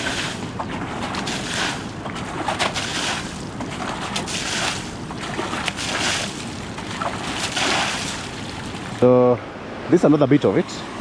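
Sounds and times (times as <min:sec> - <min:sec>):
wind buffeting microphone: 0:00.0 - 0:09.0
rushing river water: 0:00.0 - 0:11.0.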